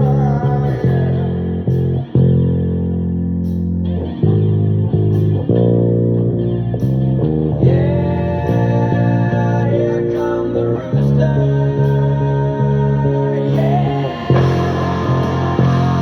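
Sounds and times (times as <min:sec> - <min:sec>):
distorted guitar: 0:00.0 - 0:16.0
electric bass long held notes: 0:00.0 - 0:16.0.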